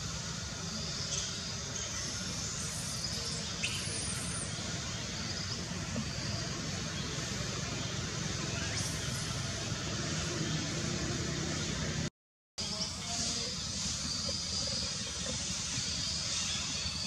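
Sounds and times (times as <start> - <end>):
low hum of distant traffic: 0.0 - 17.0.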